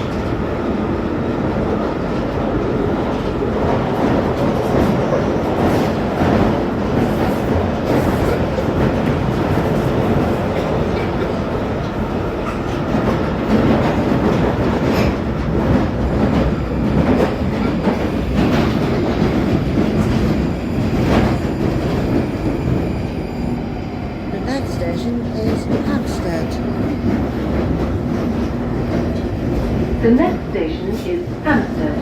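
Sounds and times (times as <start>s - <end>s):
train rumbling in a tunnel: 0.0s - 32.0s.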